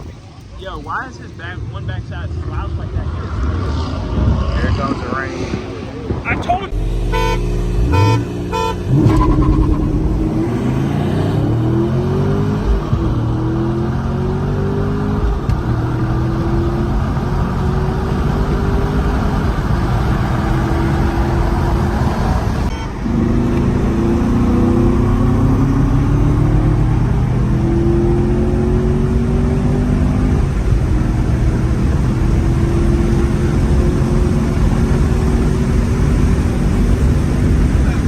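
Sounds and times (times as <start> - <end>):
car engine accelerating hard: 1.4 - 38.0.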